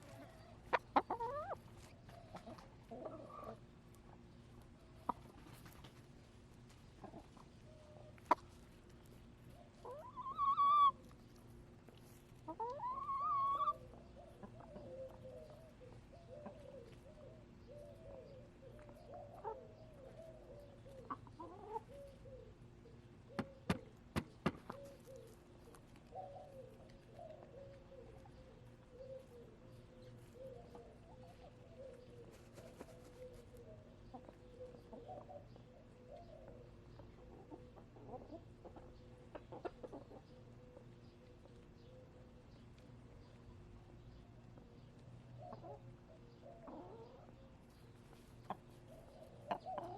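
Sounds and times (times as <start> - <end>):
hens clucking softly: 0.0 - 49.9.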